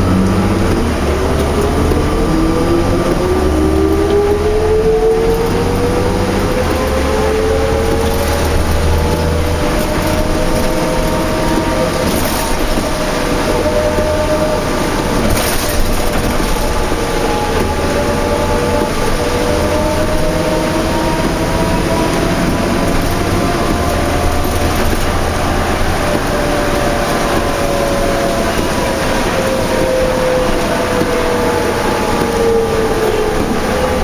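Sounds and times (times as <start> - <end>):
bus engine hum: 0.0 - 34.0
rising transmission whine: 0.0 - 34.0.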